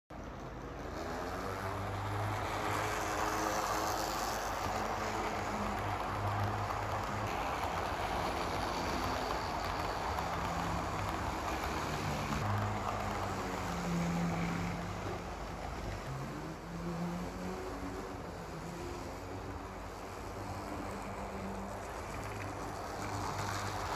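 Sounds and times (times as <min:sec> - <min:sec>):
low motor hum: 0:00.2 - 0:23.9
model train wheels rumbling: 0:00.2 - 0:23.9.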